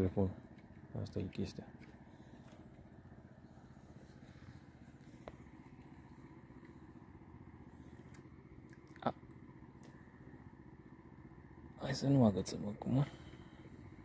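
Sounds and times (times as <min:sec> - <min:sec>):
distant engine drone: 0:00.0 - 0:14.0.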